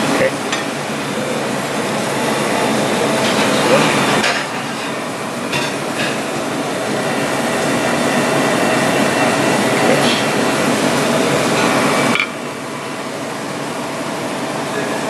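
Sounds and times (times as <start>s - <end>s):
restaurant background noise: 0.0s - 15.0s.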